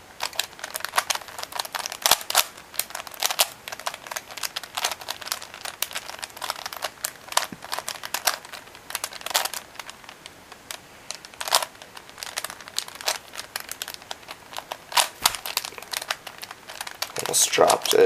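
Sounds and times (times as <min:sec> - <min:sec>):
puzzle cube clicking and scraping: 0:00.2 - 0:18.0.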